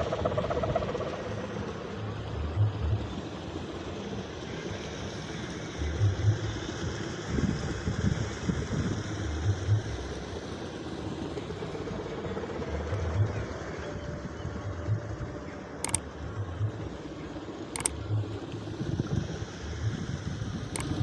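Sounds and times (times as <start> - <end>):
kite hummer droning: 0.0 - 21.0.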